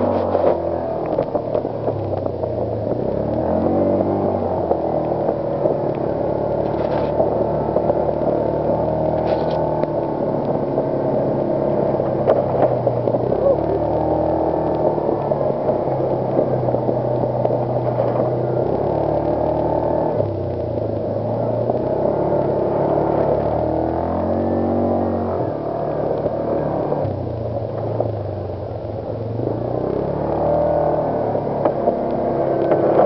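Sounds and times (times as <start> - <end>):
off-road vehicle engine running: 0.0 - 33.0.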